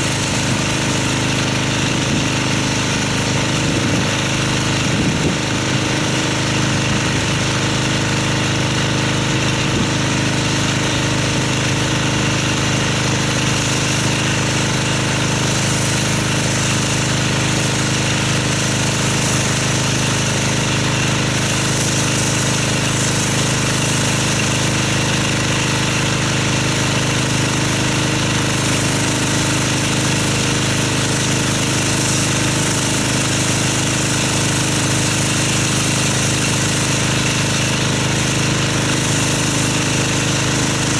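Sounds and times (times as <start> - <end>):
high-pressure water spray: 0.0 - 40.9
pressure washer droning: 0.0 - 40.9.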